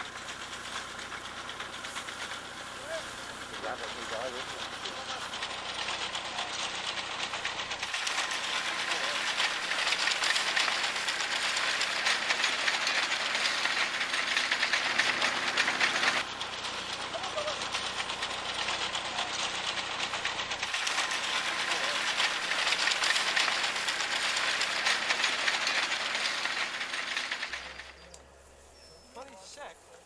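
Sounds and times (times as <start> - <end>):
threshing machine clattering: 0.0 - 28.2.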